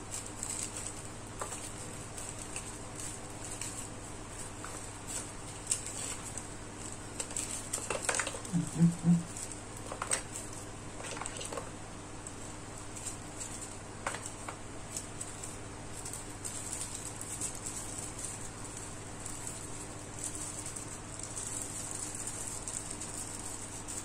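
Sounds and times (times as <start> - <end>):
plastic bag rustling: 0.0 - 24.0.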